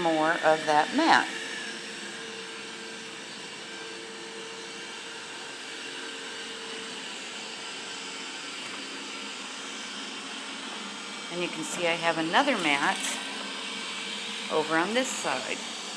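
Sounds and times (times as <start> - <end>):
robot vacuum whirring: 0.0 - 15.9.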